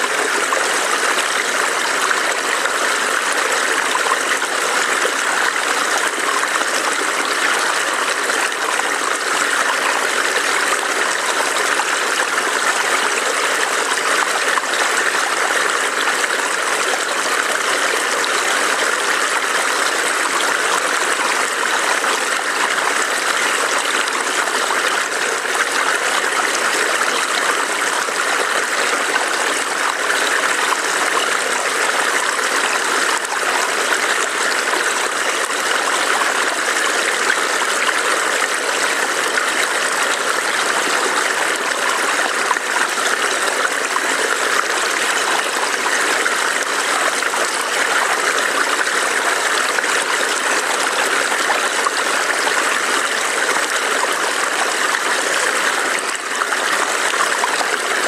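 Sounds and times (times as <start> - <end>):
stream burbling over rocks: 0.0 - 58.0.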